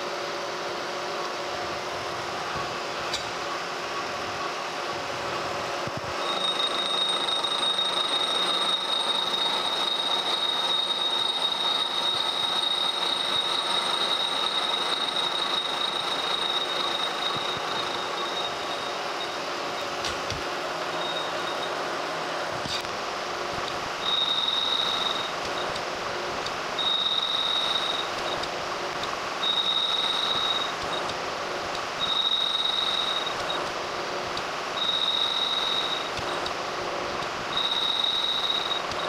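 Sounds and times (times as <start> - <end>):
milling machine running: 0.0 - 39.0
high-pitched cutter whine: 1.1 - 39.0.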